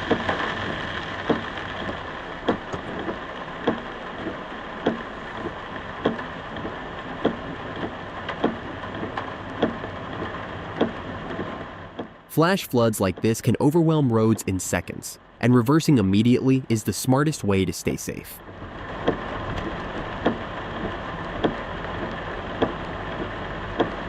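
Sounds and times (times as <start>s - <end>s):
heavy rain rushing: 0.0s - 24.0s.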